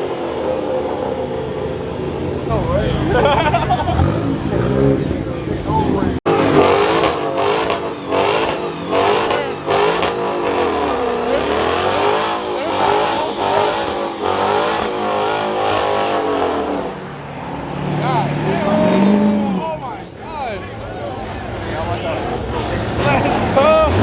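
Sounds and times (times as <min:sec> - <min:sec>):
car engine revving hard: 0:00.0 - 0:20.4, 0:21.1 - 0:24.0.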